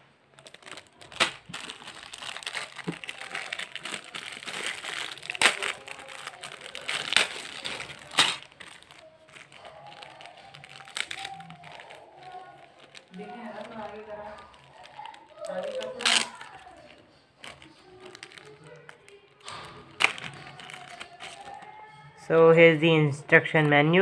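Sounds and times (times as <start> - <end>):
plastic bag crinkling: 0.0 - 22.3.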